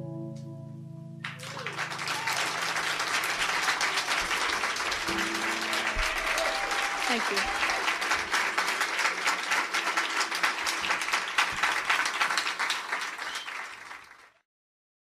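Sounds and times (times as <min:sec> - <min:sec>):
crowd applauding: 0:01.2 - 0:14.4.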